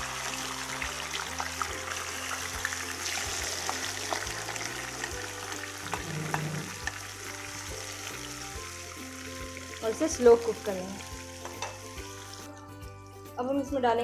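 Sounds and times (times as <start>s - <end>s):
chicken sizzling in a pan: 0.0s - 12.6s
background music: 0.0s - 14.0s.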